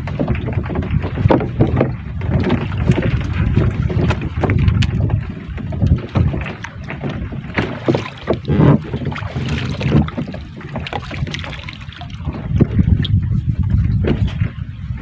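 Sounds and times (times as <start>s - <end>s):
water splashing against boat: 0.0s - 15.0s
wind buffeting microphone: 0.0s - 15.0s.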